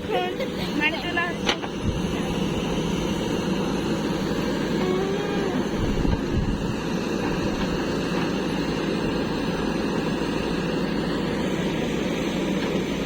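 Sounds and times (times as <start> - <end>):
diesel engines of machinery running: 0.0 - 13.0.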